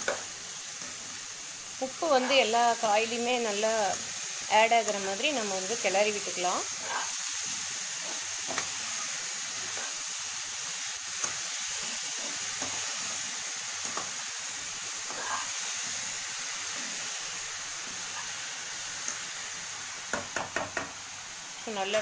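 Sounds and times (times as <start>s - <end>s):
beetroot sizzling in oil: 0.0s - 22.0s.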